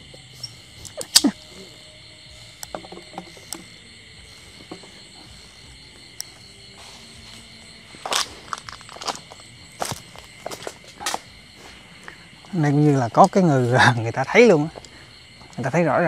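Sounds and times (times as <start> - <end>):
crickets chirping: 0.0 - 16.0
footsteps on garden ground: 2.3 - 16.0.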